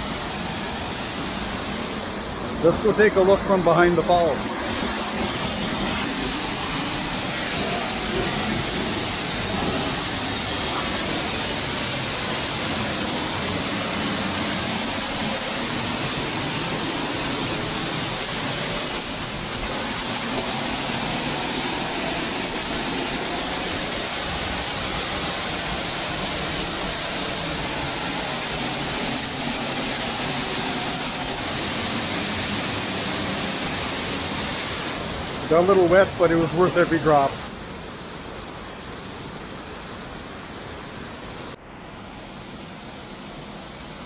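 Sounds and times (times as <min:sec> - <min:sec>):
waterfall rushing onto rocky pool: 0:00.0 - 0:41.6.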